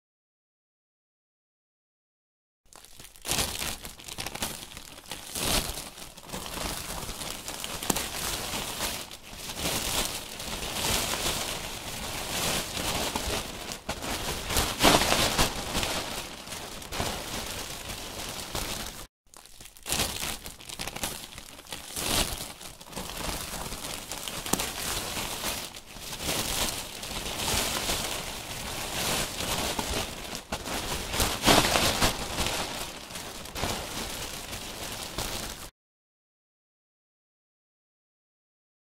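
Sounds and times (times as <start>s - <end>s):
plastic bag rustling: 2.7s - 35.7s.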